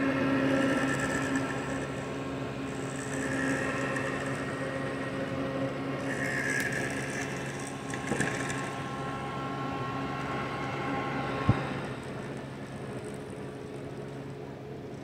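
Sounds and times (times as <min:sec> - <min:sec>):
desk fan whirring: 0:00.0 - 0:15.0.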